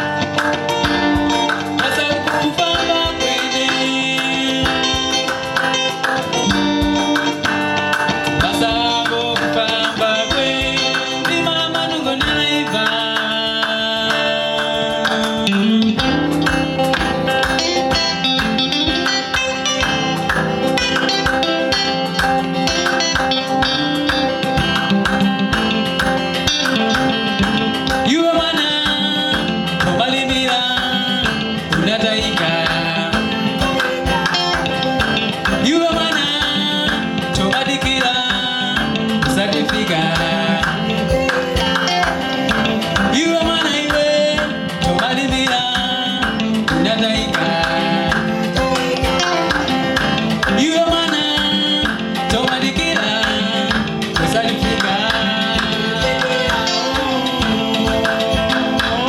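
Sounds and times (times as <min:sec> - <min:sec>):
band playing upbeat instrumental: 0:00.0 - 0:59.0.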